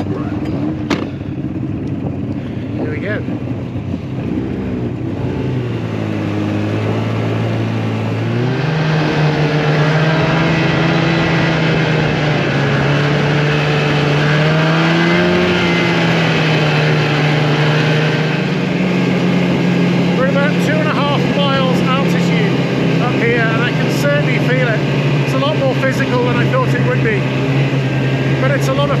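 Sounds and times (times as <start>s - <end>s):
snowmobile engine revving: 0.0s - 29.0s.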